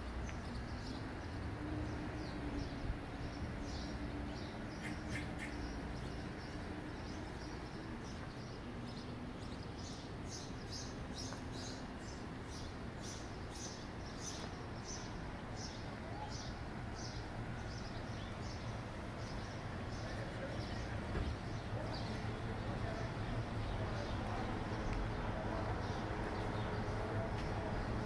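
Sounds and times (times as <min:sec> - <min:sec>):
city background hum: 0:00.0 - 0:28.0.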